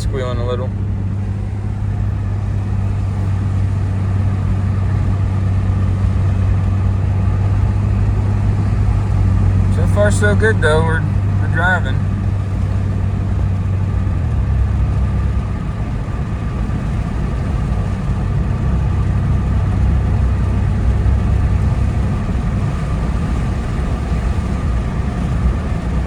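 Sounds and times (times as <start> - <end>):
car engine running: 0.0 - 26.0
road rumble: 0.0 - 26.0.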